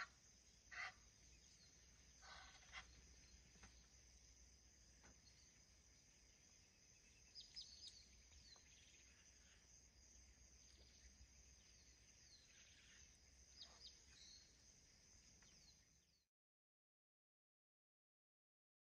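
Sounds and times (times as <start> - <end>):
bird chirps: 0.0 - 3.9, 5.0 - 16.3
high insect drone: 0.0 - 16.2.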